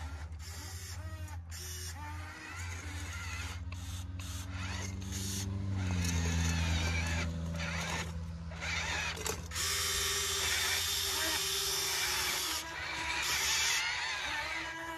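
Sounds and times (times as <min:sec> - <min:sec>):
electric toy motors whining: 0:00.0 - 0:14.9.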